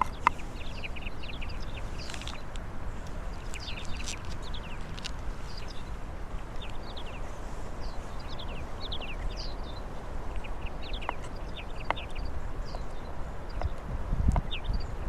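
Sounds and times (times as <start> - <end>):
steady low rumble: 0.0 - 12.8
small birds chirping: 0.0 - 15.0.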